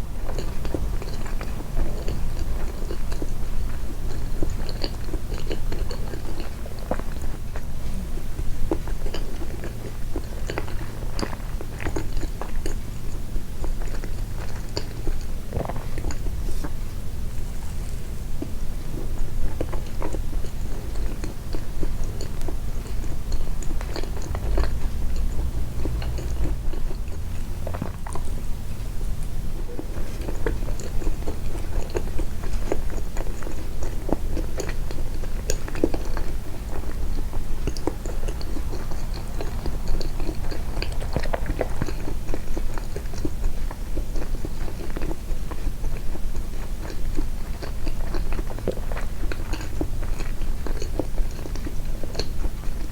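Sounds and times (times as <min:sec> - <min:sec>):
chewing with wet clicks: 0:00.1 - 0:52.9.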